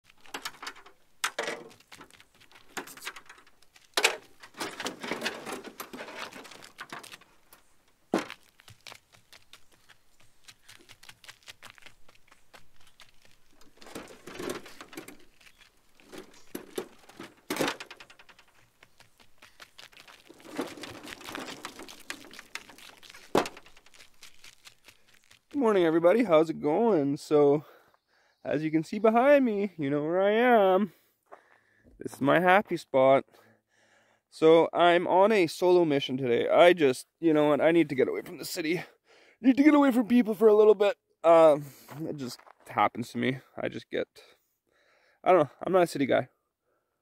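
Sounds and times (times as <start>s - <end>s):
gravel crunching: 0.0s - 27.9s, 28.5s - 33.0s, 37.3s - 43.9s.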